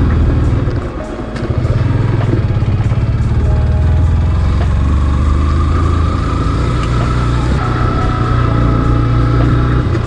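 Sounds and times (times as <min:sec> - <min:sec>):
motorcycle engine running: 0:00.0 - 0:10.0
steady high whine: 0:00.0 - 0:10.0.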